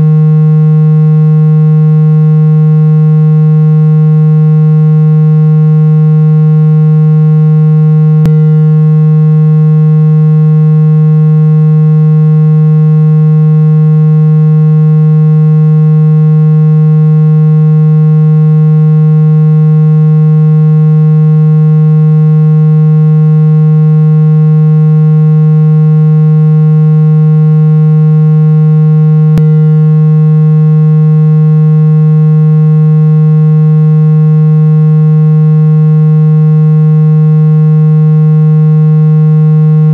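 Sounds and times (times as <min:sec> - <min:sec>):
loud buzzy low tone: 0:00.0 - 0:39.9.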